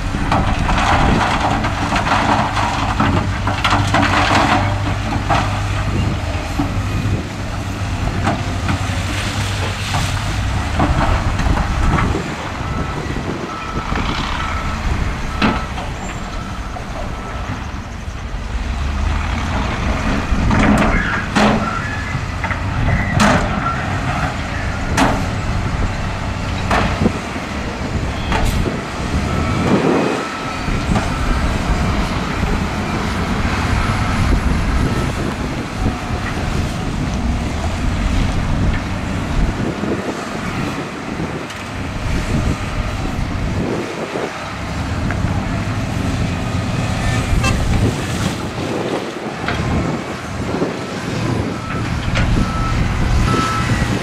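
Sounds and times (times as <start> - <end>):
diesel engines running under load: 0.0 - 54.0.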